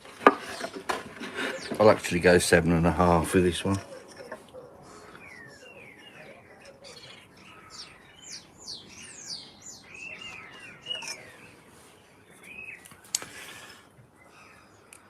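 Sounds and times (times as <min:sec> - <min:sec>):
small birds chirping: 0:00.5 - 0:15.0.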